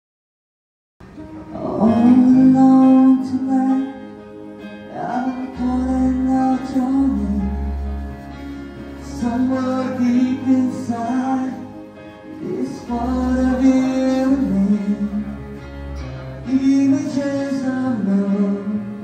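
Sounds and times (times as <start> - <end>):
acoustic guitar: 1.0 - 19.0
electronic keyboard: 1.0 - 19.0
man singing into a microphone: 1.4 - 19.0.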